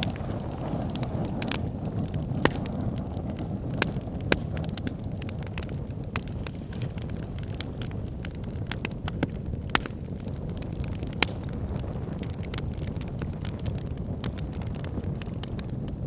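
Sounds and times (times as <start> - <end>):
bonfire flame rumbling: 0.0 - 16.0
burning wood crackling and popping: 0.0 - 16.0.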